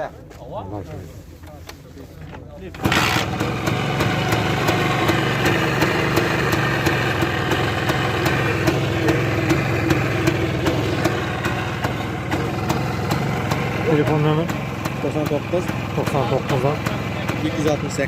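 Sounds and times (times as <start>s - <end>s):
motorcycle engine idling: 2.7s - 18.0s
sharp engine ticking: 2.8s - 18.0s.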